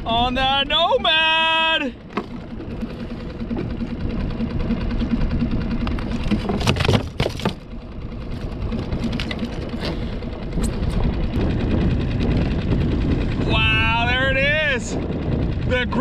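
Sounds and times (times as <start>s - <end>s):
outboard motor rattling: 0.0s - 16.0s.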